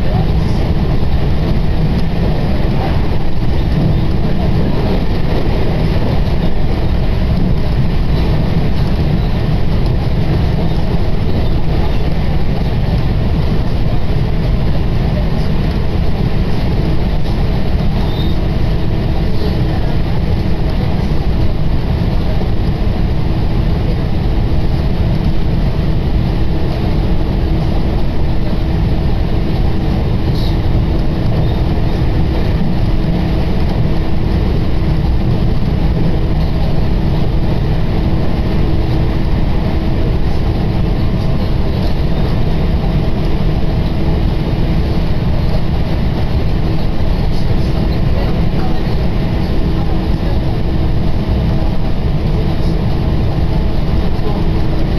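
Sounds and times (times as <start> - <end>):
steady hum: 0.0 - 54.9
train wheels rumbling: 0.0 - 54.9.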